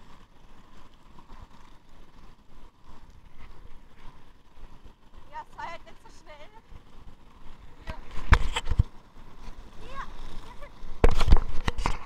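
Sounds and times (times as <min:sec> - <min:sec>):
skate wheels rolling on asphalt: 0:00.0 - 0:12.0.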